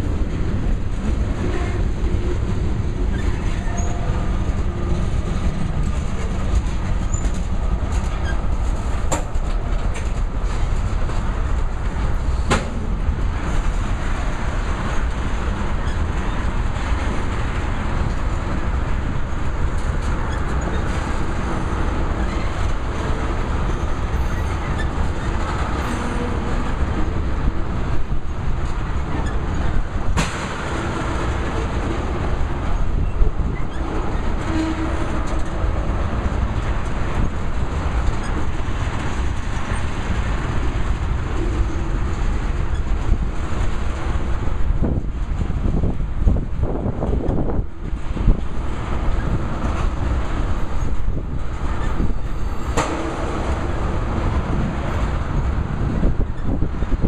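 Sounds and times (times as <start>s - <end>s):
clickety-clack at rail joints: 0.0s - 57.0s
train wheels rumbling on rails: 0.0s - 57.0s.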